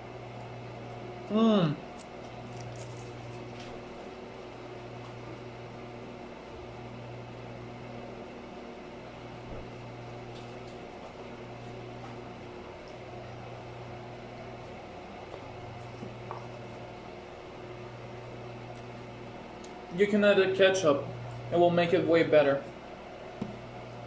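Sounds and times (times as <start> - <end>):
appliance fan motor humming: 0.0 - 24.0.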